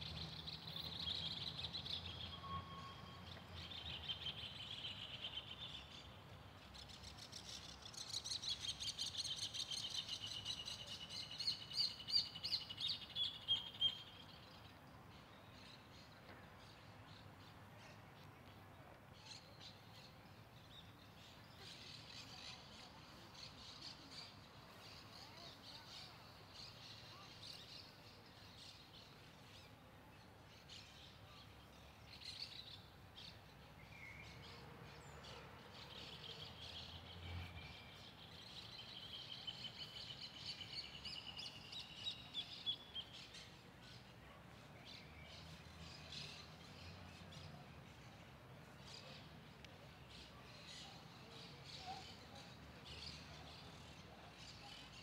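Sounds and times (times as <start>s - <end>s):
small birds chirping: 3.3s - 55.0s.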